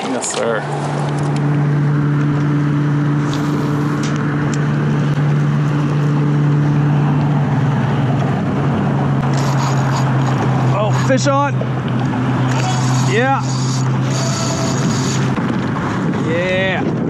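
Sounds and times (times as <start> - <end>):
wash of noise: 0.0 - 16.8.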